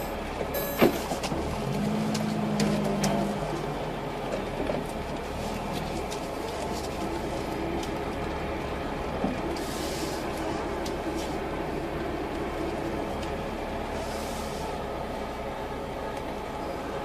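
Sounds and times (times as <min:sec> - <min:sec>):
car engine running: 0:00.0 - 0:17.0
road noise inside car: 0:00.0 - 0:17.0.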